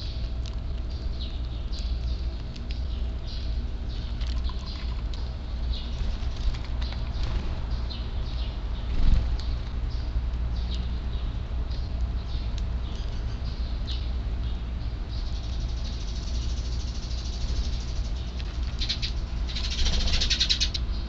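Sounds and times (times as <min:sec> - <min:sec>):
sparrows chirping: 0:00.0 - 0:21.0.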